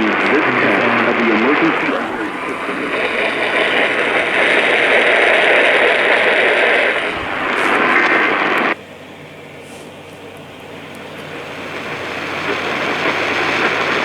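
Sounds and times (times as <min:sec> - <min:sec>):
radio static hiss: 0:00.0 - 0:08.8, 0:11.2 - 0:14.0.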